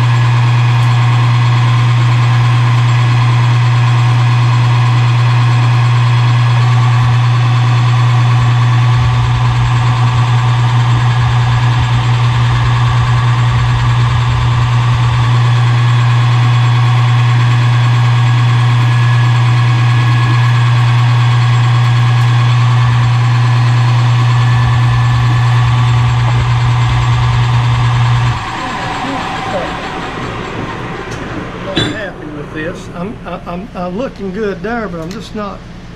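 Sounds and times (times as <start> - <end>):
lathe cutting whine: 0.0 - 35.9
lathe motor hum: 0.0 - 35.9.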